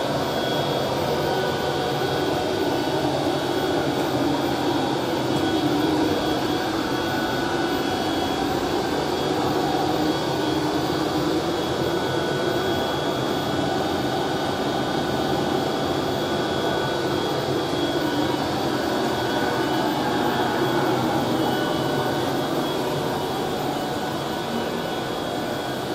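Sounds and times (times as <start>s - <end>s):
thin steady machine whines: 0.0s - 25.9s.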